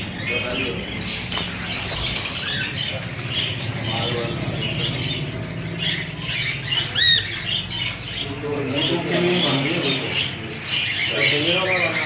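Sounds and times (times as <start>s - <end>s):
small parrots chirping: 0.0s - 12.0s.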